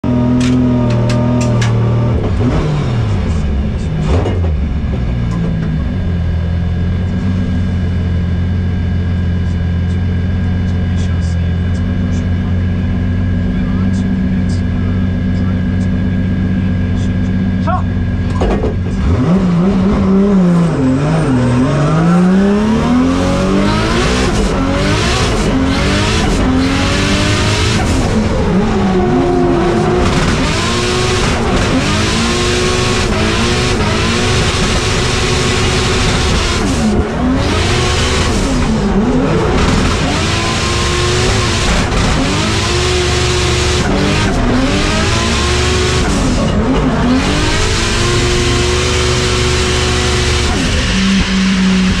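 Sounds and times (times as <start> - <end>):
tyre and road noise: 0.0 - 11.3, 14.9 - 52.0
car engine revving: 0.0 - 52.0.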